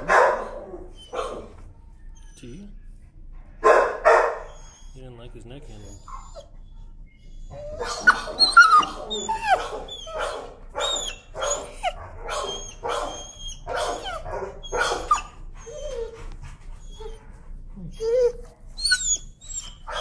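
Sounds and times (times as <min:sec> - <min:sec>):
dog yelping: 0:00.0 - 0:01.6, 0:03.6 - 0:05.0, 0:05.8 - 0:20.0
dog whining: 0:00.0 - 0:02.7, 0:04.2 - 0:05.1, 0:05.7 - 0:20.0.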